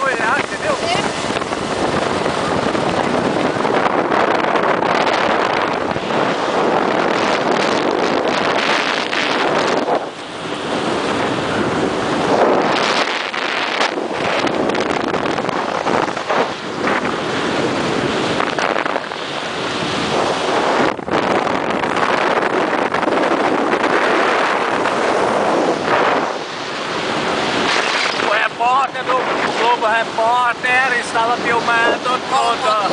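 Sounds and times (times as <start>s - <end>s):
boat hull rushing through waves: 0.0s - 32.9s
wind buffeting microphone: 0.0s - 32.9s.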